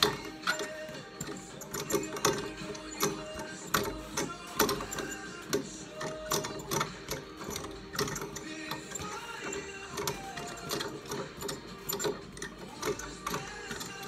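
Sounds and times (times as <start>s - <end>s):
speed bag rattles: 0.0s - 14.0s.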